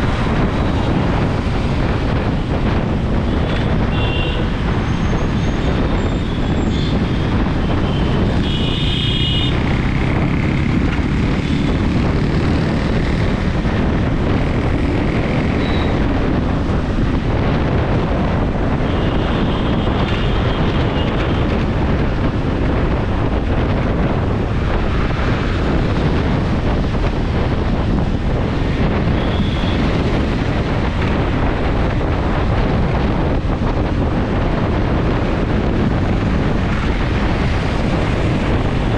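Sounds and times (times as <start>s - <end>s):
scooter engine and road noise: 0.0s - 38.9s
wind on microphone: 0.0s - 38.9s.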